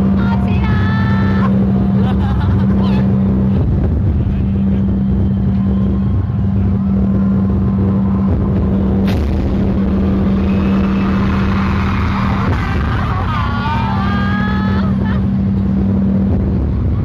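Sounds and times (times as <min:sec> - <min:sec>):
crowd din: 0:00.0 - 0:17.0
fans screaming and cheering: 0:00.0 - 0:17.0
low hum: 0:00.0 - 0:17.0.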